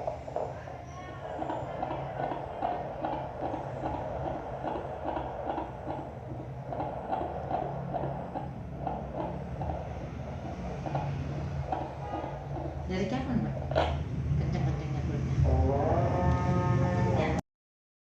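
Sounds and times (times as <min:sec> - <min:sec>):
fetal heartbeat whooshing: 0:00.0 - 0:17.4
steady low hum: 0:00.0 - 0:17.4.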